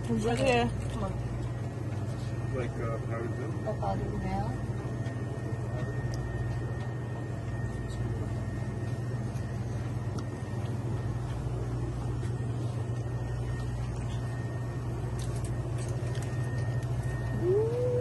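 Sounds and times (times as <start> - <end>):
refrigeration hum: 0.0 - 18.0
faint high whine: 2.1 - 18.0.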